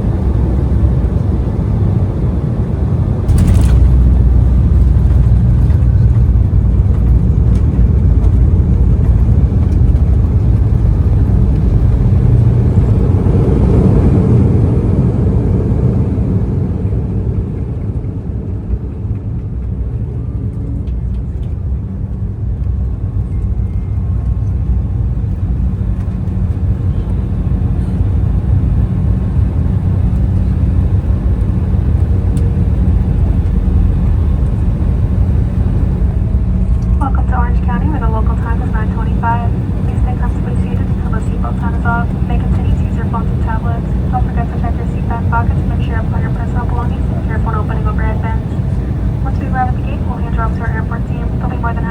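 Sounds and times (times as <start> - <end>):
jet cabin engine rumble: 0.0 - 51.9.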